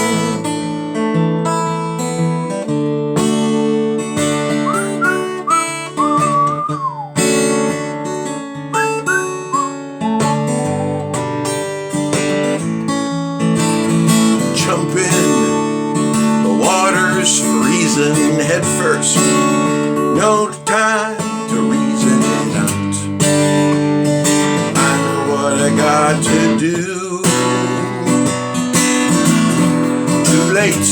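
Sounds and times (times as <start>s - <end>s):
acoustic guitar strumming chords: 0.0s - 30.9s
sliding guitar notes: 4.2s - 30.9s.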